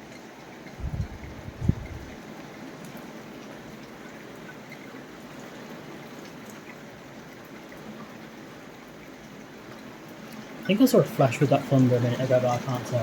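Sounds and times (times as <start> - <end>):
faint drips: 0.0 - 13.0
heavy rain falling: 0.0 - 13.0.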